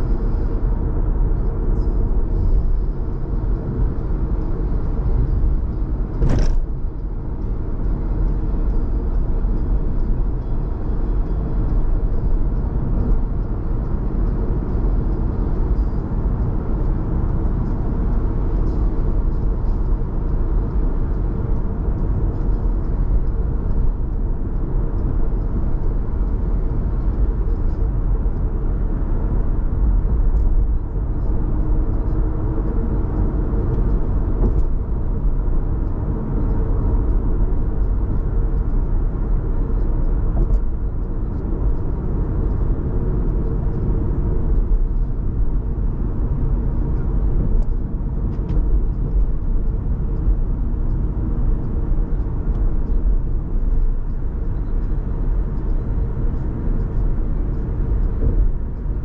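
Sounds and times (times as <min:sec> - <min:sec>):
car engine rumble: 0:00.0 - 0:59.0
tyre noise on road: 0:00.0 - 0:59.0.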